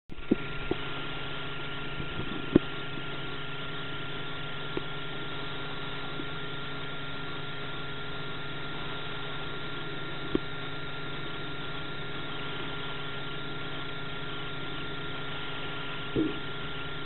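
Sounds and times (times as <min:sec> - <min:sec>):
motor hum: 0:00.1 - 0:17.0.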